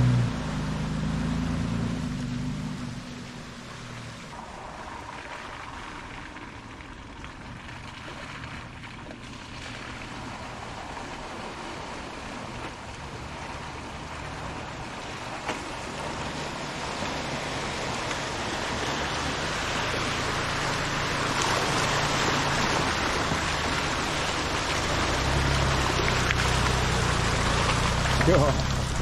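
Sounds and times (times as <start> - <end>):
suv engine running low: 0.0 - 29.0.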